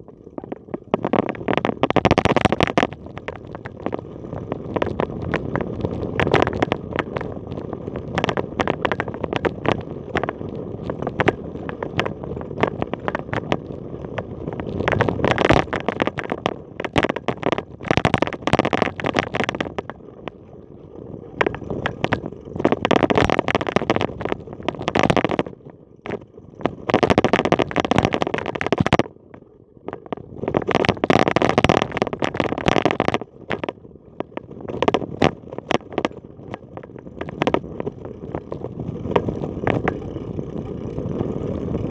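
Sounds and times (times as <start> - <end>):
bicycle tyres rolling and rattling: 0.0 - 41.9.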